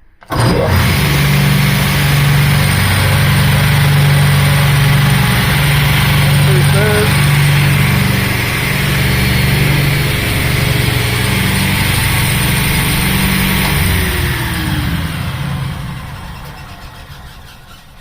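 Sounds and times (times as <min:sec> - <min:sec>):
table saw running and winding down: 0:00.2 - 0:18.0.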